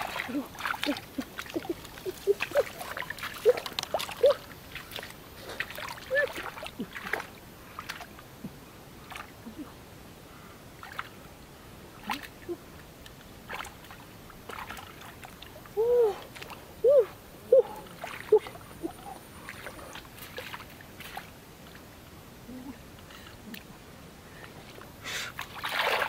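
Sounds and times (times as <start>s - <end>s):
water splashing and sloshing: 0.0s - 9.7s, 10.8s - 11.3s, 12.0s - 22.0s, 24.4s - 26.0s.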